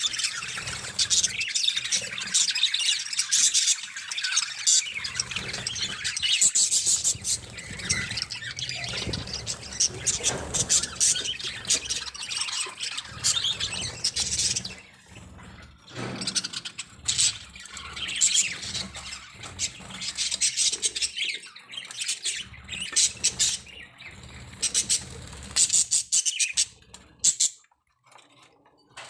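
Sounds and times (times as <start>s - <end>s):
budgerigars chirping: 0.0s - 27.5s.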